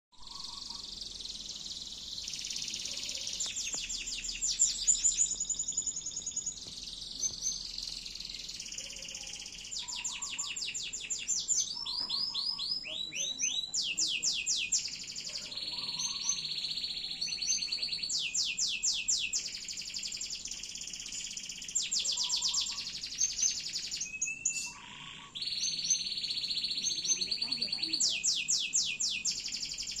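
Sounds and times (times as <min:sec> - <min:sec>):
canary singing trills: 0:00.1 - 0:30.0.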